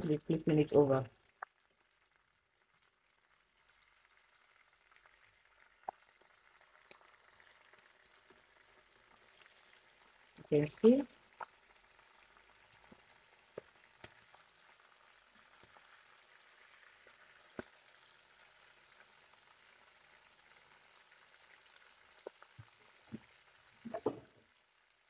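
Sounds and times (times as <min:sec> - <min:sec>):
fish sizzling in hot oil: 0:01.0 - 0:25.0.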